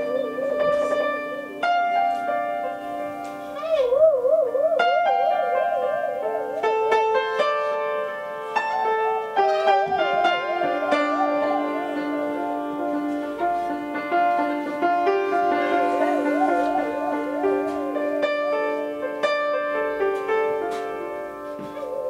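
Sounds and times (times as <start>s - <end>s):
bowed instrument vibrato melody: 0.0s - 22.0s
upright piano chords: 0.0s - 22.0s.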